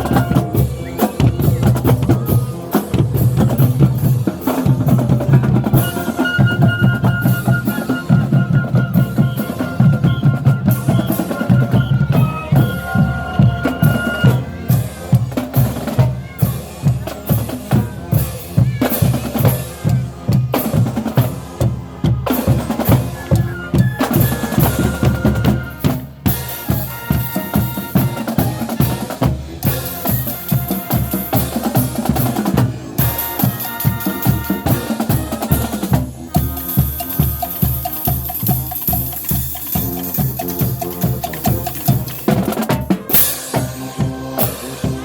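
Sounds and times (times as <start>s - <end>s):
drumline bass drum and snare: 0.0s - 45.0s.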